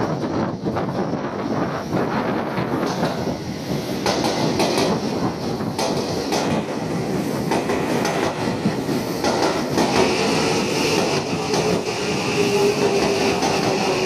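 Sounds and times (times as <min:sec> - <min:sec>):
train wheels clacking over rail joints: 0:02.3 - 0:14.0.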